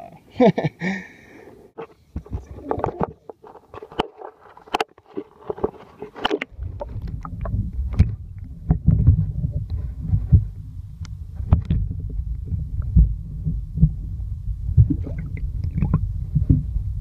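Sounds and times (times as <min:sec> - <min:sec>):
muffled underwater rumble and thuds: 0:01.8 - 0:17.0.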